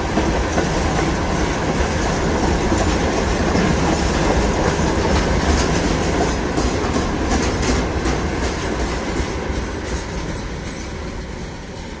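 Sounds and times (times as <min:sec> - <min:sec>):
train wheels clattering over rail joints: 0:00.0 - 0:12.0.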